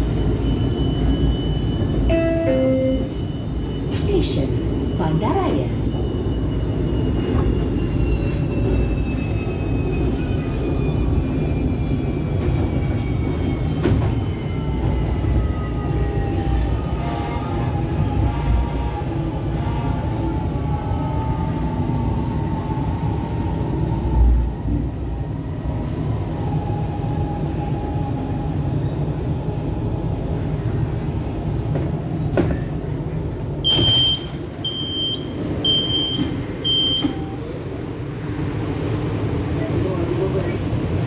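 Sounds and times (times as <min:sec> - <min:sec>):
train rumbling along track: 0:00.0 - 0:41.0.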